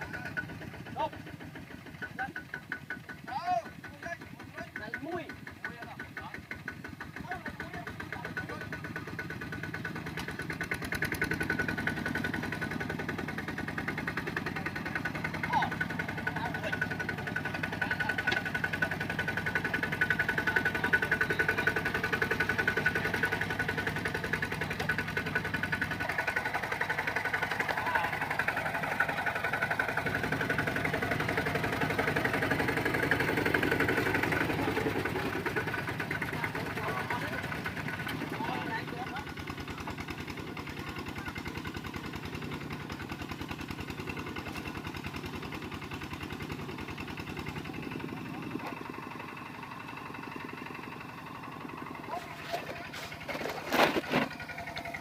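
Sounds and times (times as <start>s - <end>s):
diesel engine putting: 0.0s - 55.0s
wheels churning through mud: 0.0s - 55.0s.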